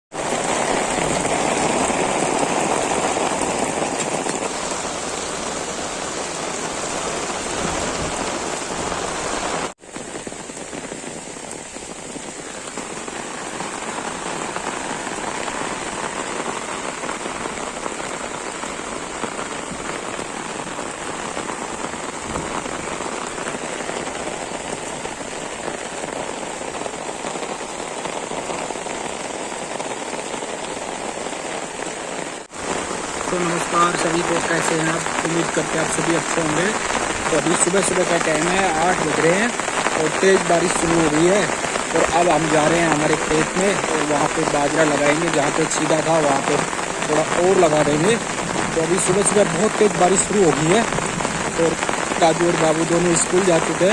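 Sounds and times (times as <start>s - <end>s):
heavy rain falling: 0.1s - 53.9s.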